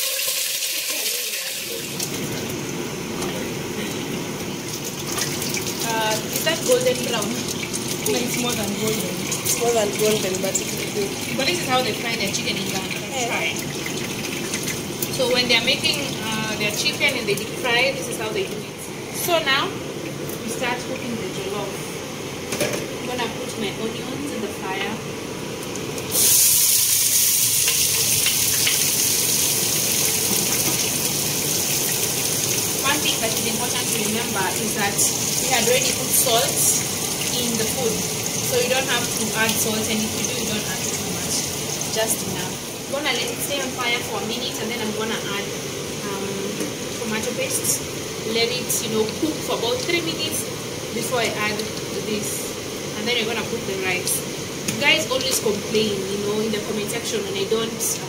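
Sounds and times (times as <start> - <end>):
chicken frying in hot oil: 0.0 - 18.7, 20.4 - 58.0.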